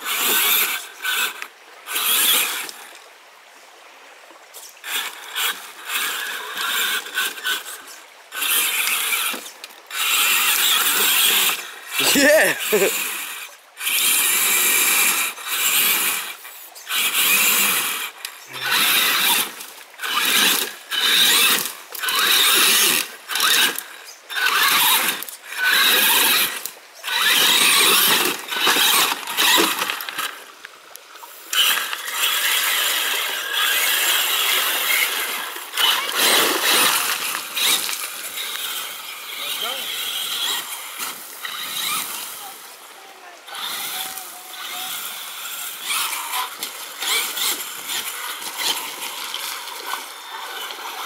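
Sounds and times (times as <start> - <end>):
rc truck motor whining: 0.0 - 2.9, 4.6 - 30.5, 31.4 - 51.0.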